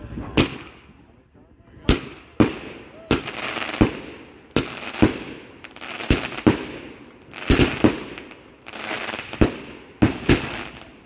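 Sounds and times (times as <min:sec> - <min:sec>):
firework bangs: 0:01.8 - 0:11.0
crackling hiss of bursting shells: 0:01.9 - 0:10.9.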